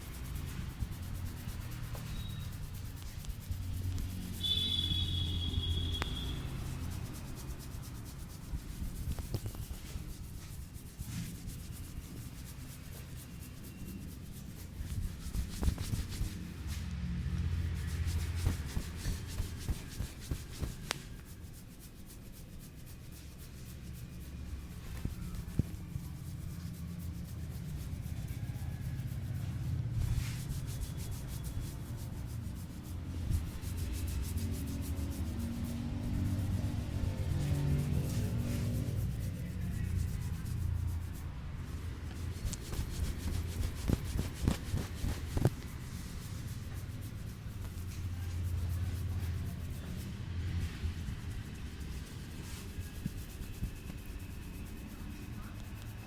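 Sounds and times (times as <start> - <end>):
light taps and slaps: 0.0 - 21.8, 23.2 - 56.0
hands rubbing hair: 0.0 - 56.0.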